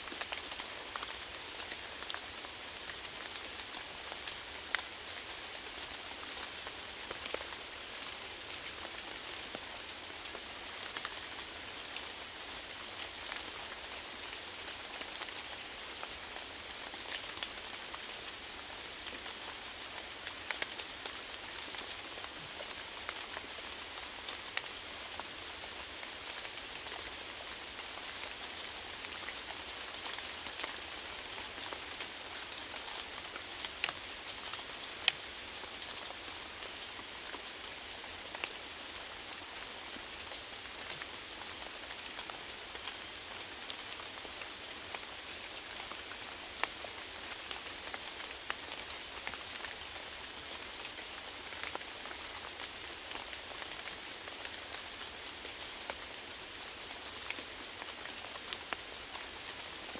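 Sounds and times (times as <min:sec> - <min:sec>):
steady rain hiss: 0:00.0 - 0:59.9
raindrops ticking on a surface: 0:00.1 - 0:59.9.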